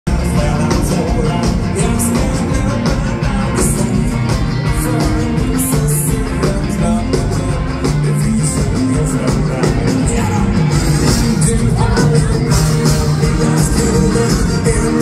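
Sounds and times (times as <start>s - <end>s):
rock and roll band playing: 0.0s - 15.0s.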